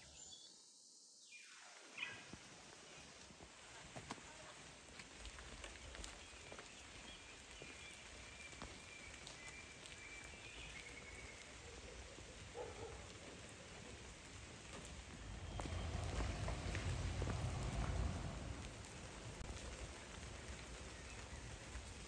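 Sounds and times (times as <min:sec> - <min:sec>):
raindrops pattering on leaves: 0:02.2 - 0:22.0.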